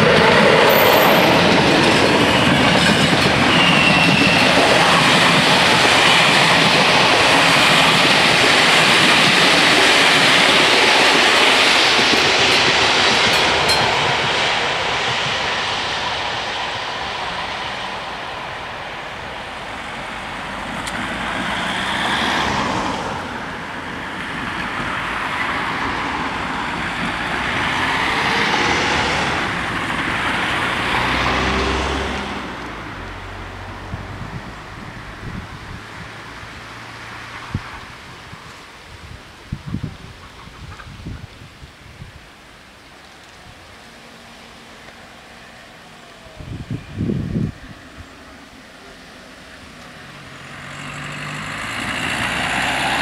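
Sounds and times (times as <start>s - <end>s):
road vehicles passing: 0.0s - 41.0s, 42.3s - 53.0s
train coaches rumbling past: 0.0s - 53.0s.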